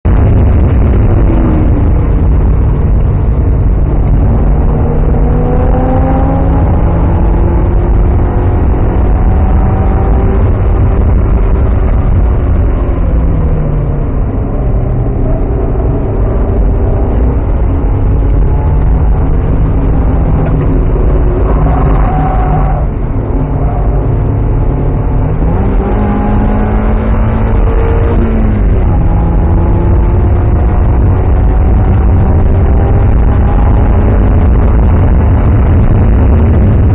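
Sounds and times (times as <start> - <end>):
heavy low rumble: 0.0 - 36.9
car engine accelerating: 0.1 - 36.9.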